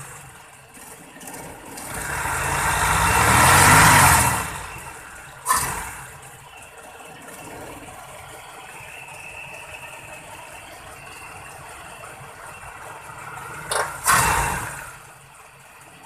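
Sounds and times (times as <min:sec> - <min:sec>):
car engine rattling: 0:00.0 - 0:16.0.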